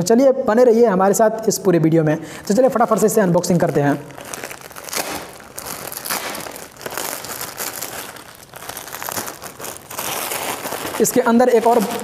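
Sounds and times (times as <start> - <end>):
plastic packet crinkling and tearing: 2.4 - 12.0.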